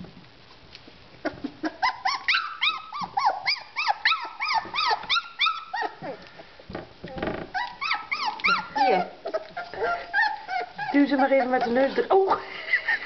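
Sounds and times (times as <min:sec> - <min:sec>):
puppies whining: 0:01.2 - 0:06.4, 0:07.3 - 0:13.0.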